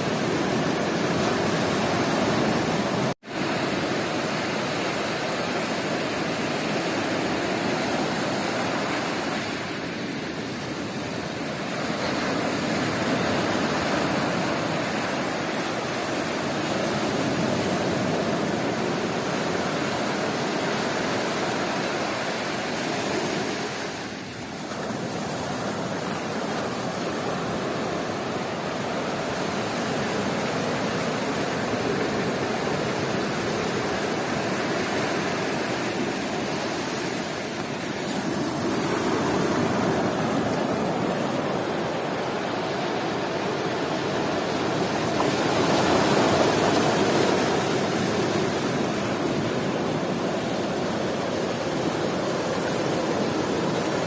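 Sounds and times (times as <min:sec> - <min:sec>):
sea waves surf: 0:00.0 - 0:54.0.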